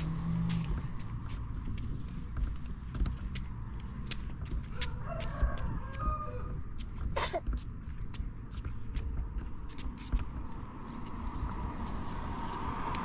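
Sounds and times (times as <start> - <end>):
footsteps on concrete: 0.0 - 13.0.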